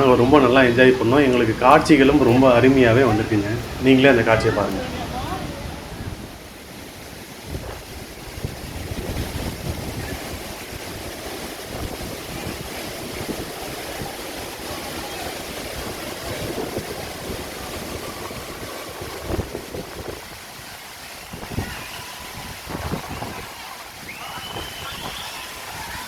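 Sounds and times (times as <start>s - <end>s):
waterfall rushing: 0.0s - 26.0s
wind buffeting microphone: 0.0s - 26.0s.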